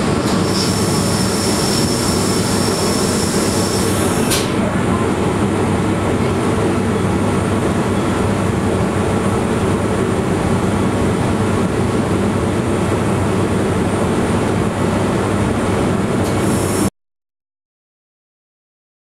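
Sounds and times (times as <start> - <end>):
electric railway car running: 0.0 - 16.9.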